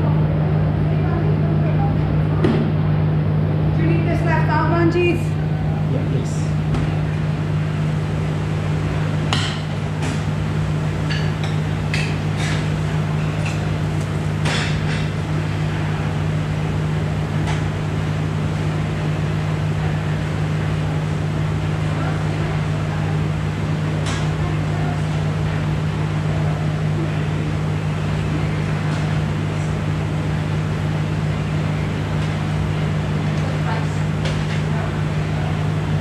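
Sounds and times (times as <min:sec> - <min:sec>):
kitchen equipment hum: 0:00.0 - 0:36.0.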